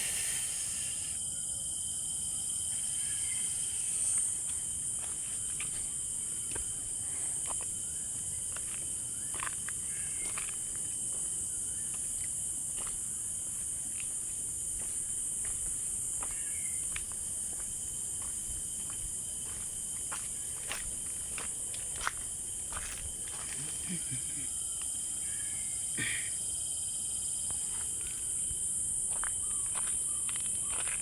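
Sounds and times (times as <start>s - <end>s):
insects buzzing shrilly: 0.0s - 31.0s.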